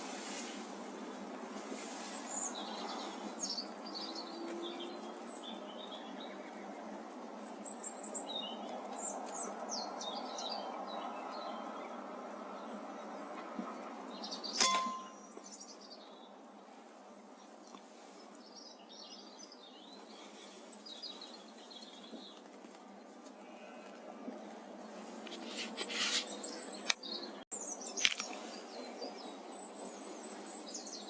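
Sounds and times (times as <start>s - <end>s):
outdoor background hiss: 0.0s - 31.0s
small birds chirping: 2.0s - 31.0s.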